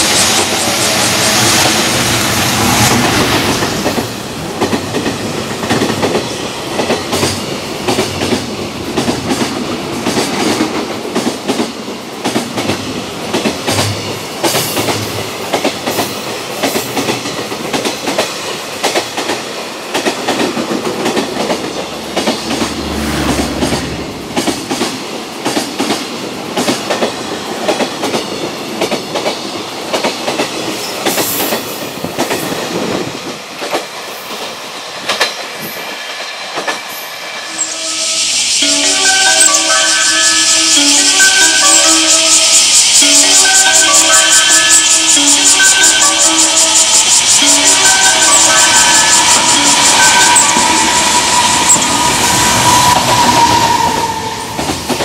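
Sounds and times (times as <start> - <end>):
freight train wheels clacking: 0.0 - 37.6, 38.3 - 55.0.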